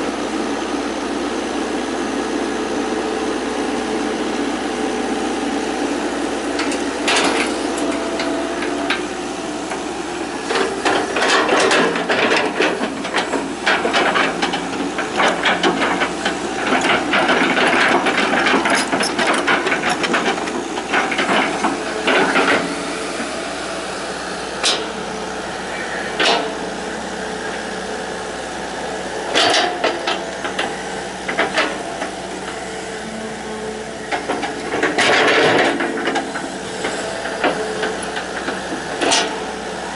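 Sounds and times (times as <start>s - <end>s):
excavator running: 0.0s - 39.9s.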